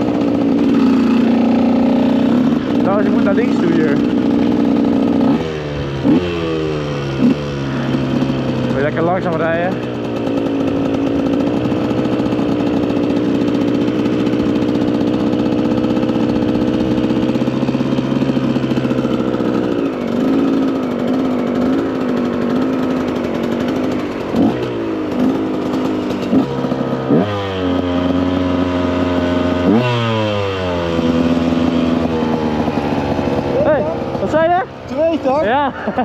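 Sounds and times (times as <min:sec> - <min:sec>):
two-stroke dirt bike engine: 0:00.0 - 0:36.0.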